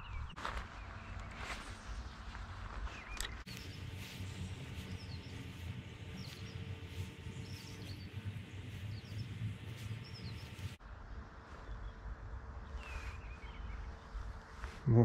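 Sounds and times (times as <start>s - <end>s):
small songbirds chirping: 0.0s - 14.8s
low steady rumble: 0.8s - 14.7s.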